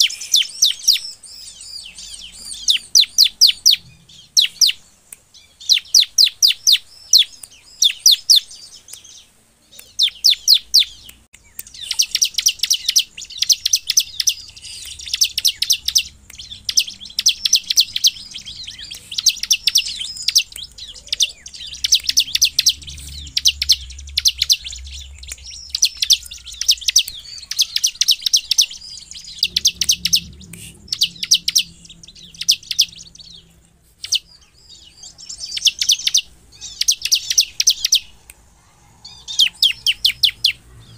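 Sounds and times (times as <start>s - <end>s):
bird singing rapid sharp chips: 0.0s - 40.9s.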